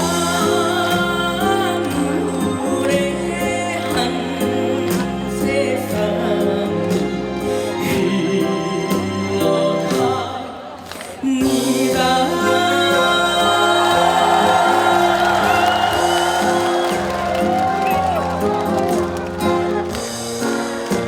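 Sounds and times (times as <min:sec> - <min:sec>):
person singing over backing track: 0:00.0 - 0:19.7.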